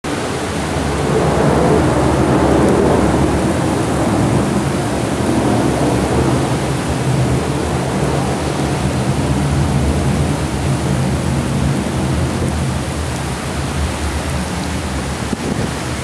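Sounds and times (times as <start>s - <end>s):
heavy rain: 0.0s - 16.0s
strong gusting wind: 0.0s - 16.0s.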